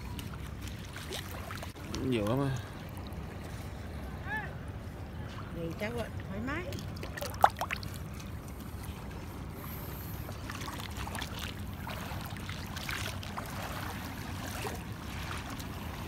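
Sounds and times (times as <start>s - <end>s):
seawater sloshing and trickling: 0.0s - 16.0s.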